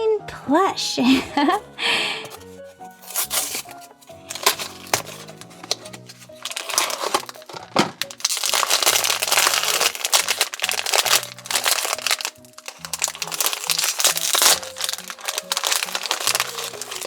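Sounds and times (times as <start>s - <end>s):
plastic packaging crinkling and tearing: 2.3s - 17.0s.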